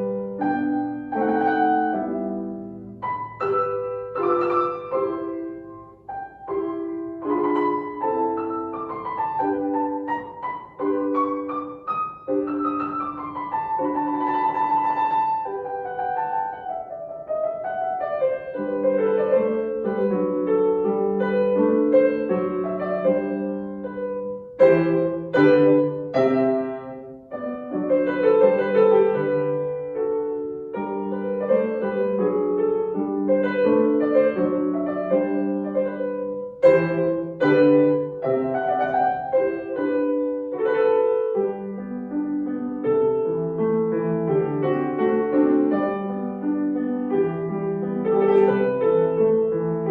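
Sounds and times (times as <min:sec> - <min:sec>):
solo piano classical piece: 0:00.0 - 0:49.9.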